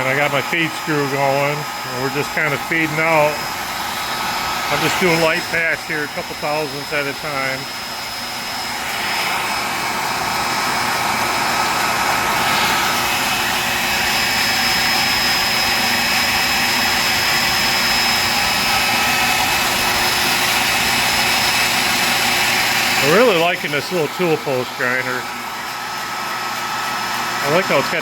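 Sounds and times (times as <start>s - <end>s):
grinder high whine: 0.0s - 28.0s.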